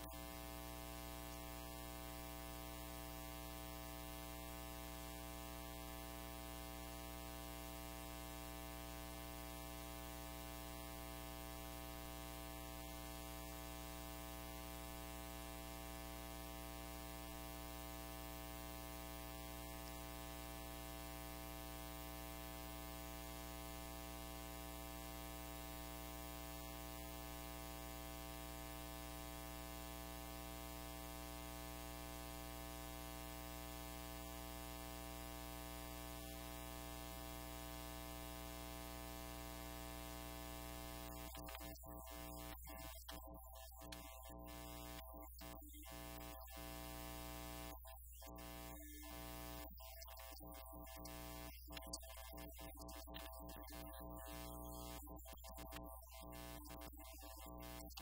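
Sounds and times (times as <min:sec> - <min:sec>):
mains hum: 0:00.0 - 0:58.0.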